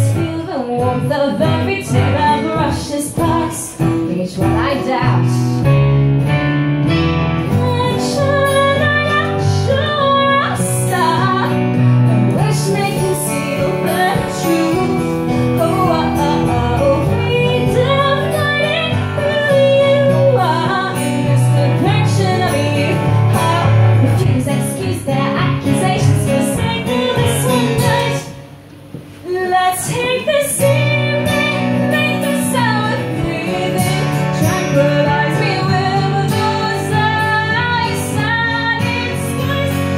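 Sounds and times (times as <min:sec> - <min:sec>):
woman singing: 0:00.0 - 0:05.7, 0:07.4 - 0:28.5, 0:29.2 - 0:39.9
acoustic guitar: 0:00.0 - 0:39.9.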